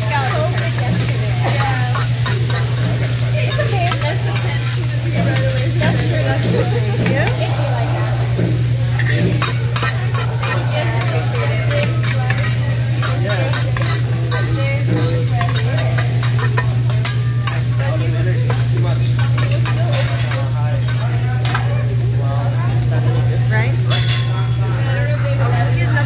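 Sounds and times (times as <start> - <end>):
rice sizzling: 0.0 - 26.0
metal spatulas scraping griddle: 0.1 - 21.6.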